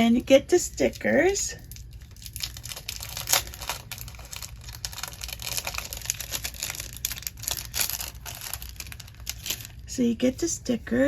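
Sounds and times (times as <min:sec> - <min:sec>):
packaging crinkling: 0:00.7 - 0:09.9.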